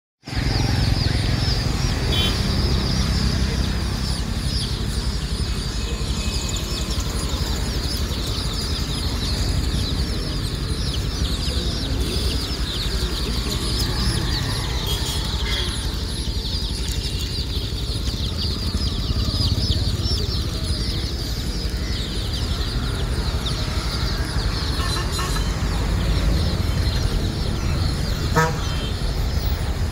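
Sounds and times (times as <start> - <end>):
chicks peeping: 0.3 - 29.9.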